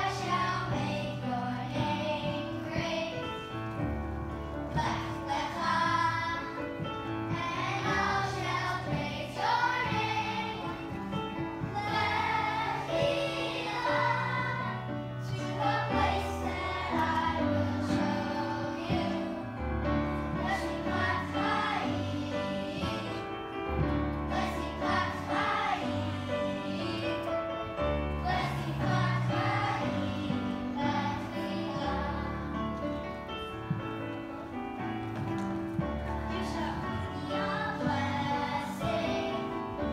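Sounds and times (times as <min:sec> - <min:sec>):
children singing in unison: 0:00.0 - 0:03.5, 0:04.7 - 0:19.6, 0:20.2 - 0:27.4, 0:28.2 - 0:32.7, 0:36.2 - 0:39.9
instrumental accompaniment: 0:00.0 - 0:39.9.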